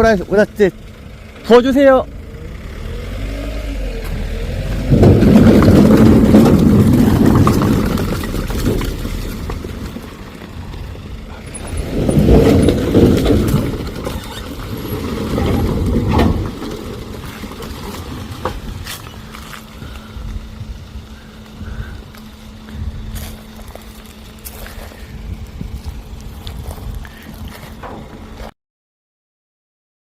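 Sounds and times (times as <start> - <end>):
truck engine running: 0.0 - 28.5
logs tumbling off truck bed: 4.0 - 28.5.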